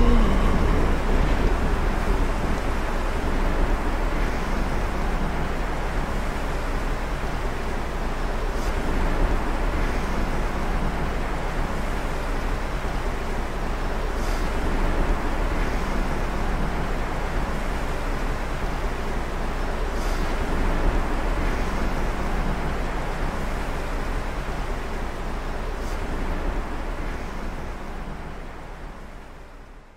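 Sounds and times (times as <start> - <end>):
low rumbling noise: 0.0 - 29.6.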